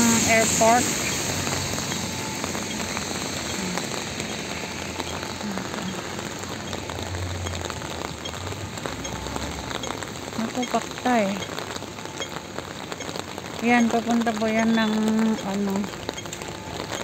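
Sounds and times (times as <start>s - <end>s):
rain on wet pavement: 0.0s - 17.0s.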